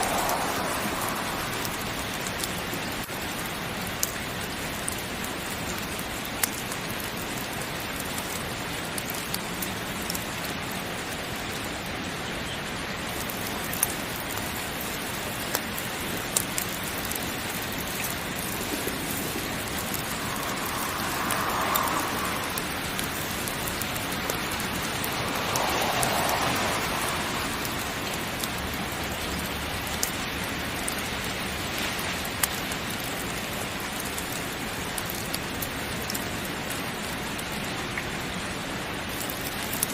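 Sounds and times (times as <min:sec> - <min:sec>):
wood fire crackling: 0:00.0 - 0:12.0, 0:12.7 - 0:38.0, 0:39.0 - 0:39.9
heavy rain: 0:00.0 - 0:39.9.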